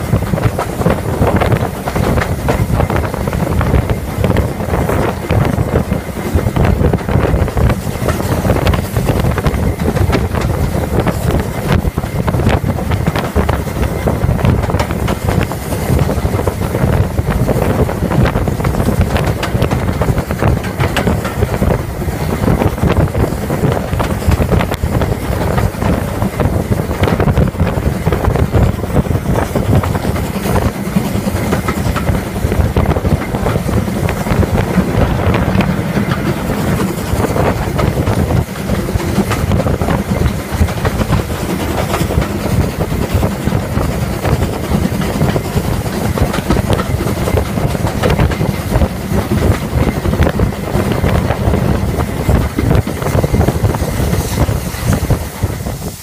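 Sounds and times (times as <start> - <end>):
steam engine working: 0.0 - 56.0
train wheels rumbling on rails: 0.0 - 56.0
wind buffeting microphone: 0.0 - 56.0.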